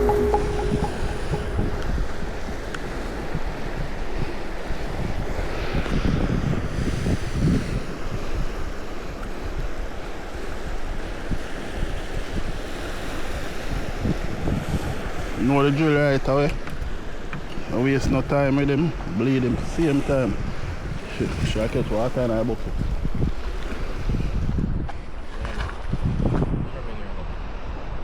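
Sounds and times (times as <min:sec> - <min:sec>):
sea waves on shore: 0:00.0 - 0:28.0
wind buffeting microphone: 0:00.0 - 0:28.0.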